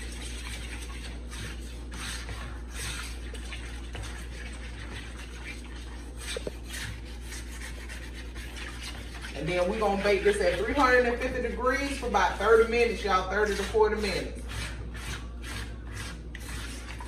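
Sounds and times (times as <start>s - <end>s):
spoon stirring liquid in bowl: 0.0s - 17.0s.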